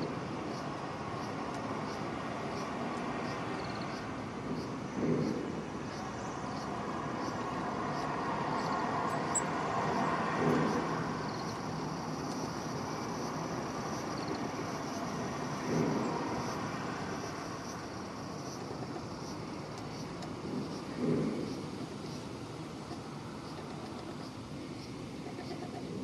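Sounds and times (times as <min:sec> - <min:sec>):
road traffic hum: 0:00.0 - 0:26.0.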